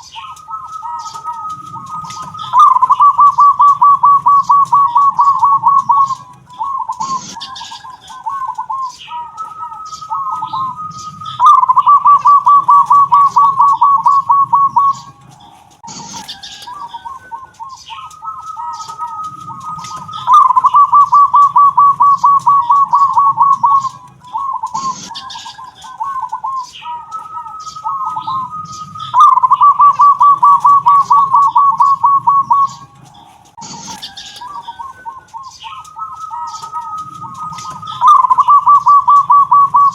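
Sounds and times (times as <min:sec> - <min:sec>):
dove cooing with rolling trill: 0:00.0 - 0:39.9.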